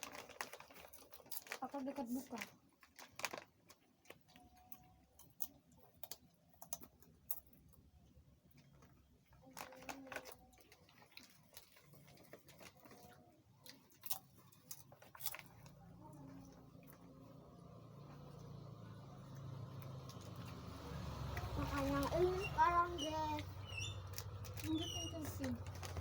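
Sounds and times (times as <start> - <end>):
people eating and handling food: 0.0 - 26.0.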